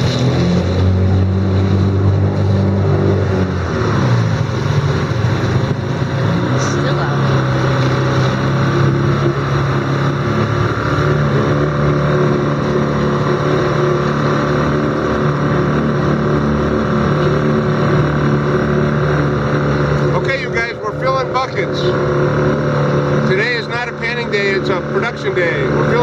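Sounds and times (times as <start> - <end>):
motorboat engine running: 0.0 - 26.0
water wash: 0.0 - 26.0
wind: 0.0 - 26.0.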